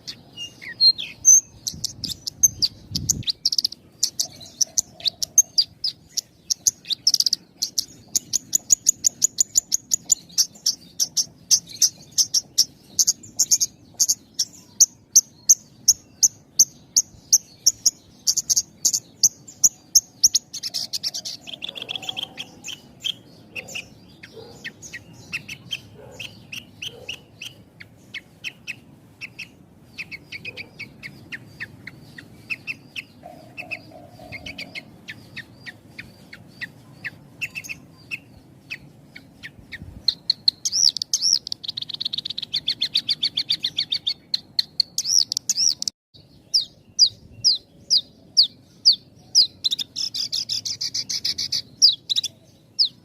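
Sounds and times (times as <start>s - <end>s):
bird trilling: 0.0s - 45.9s.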